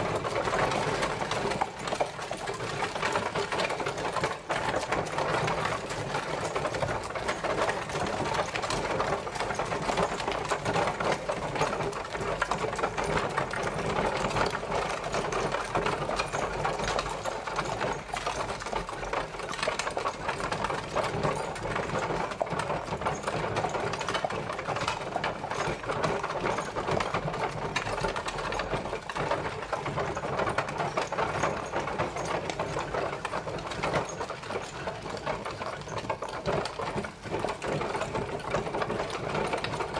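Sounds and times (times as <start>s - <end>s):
horse-drawn carriage rattling: 0.0s - 39.9s.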